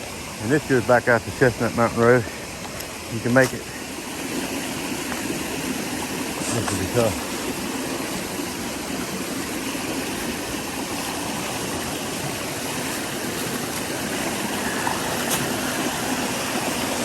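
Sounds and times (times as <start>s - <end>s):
creek rushing over rocks: 0.0s - 17.0s.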